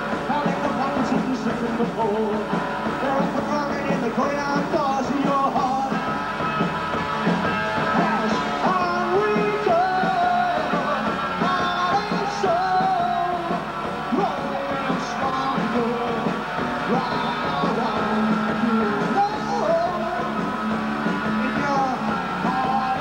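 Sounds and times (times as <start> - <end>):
person singing: 0.0 - 6.5, 7.7 - 23.0
rock band playing live: 0.0 - 23.0.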